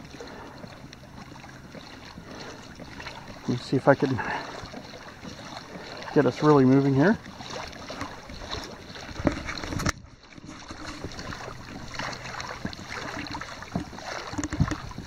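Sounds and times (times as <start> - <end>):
water rushing along kayak hull: 0.0 - 15.0.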